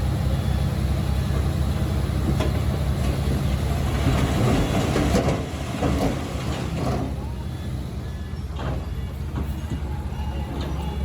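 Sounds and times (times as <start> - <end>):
diesel machine running: 0.0 - 11.0.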